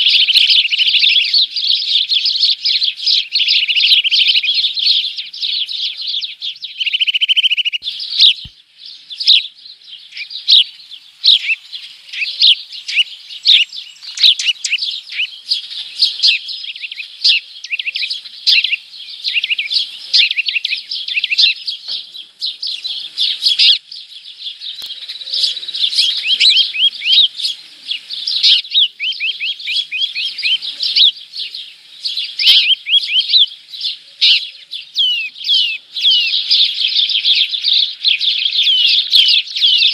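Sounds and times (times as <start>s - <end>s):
rapid buzzy bird trill: 0.0s - 8.6s, 9.2s - 21.7s, 24.9s - 39.9s
small birds chirping and twittering: 0.0s - 39.9s.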